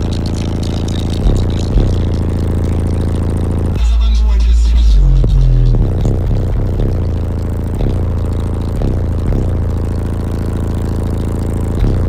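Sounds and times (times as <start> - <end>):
bass-heavy music from subwoofers: 0.0 - 12.0.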